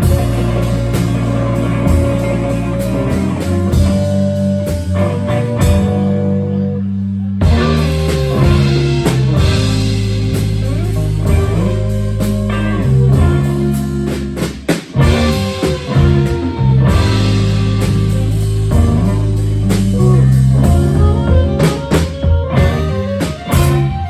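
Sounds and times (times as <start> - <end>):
saxophones: 0.0 - 14.4, 15.0 - 24.0
bass: 0.0 - 24.0
drum kit: 0.0 - 24.0
electric guitar: 0.0 - 24.0.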